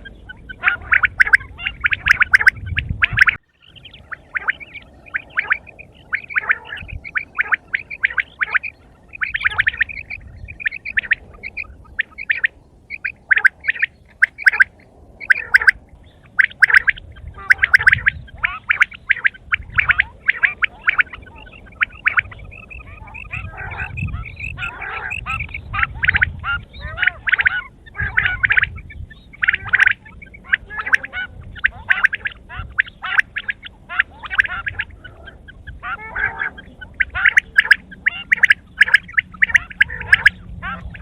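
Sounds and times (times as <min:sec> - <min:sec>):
quail calling: 0:00.0 - 0:41.0.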